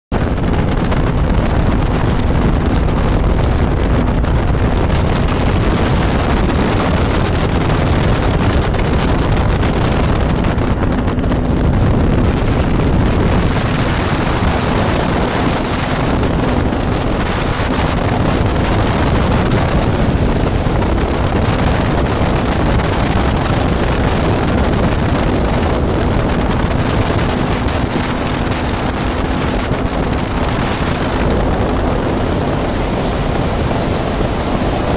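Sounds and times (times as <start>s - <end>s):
wind rushing over microphone: 0.0s - 34.9s
aircraft engine and propeller drone: 0.1s - 34.9s.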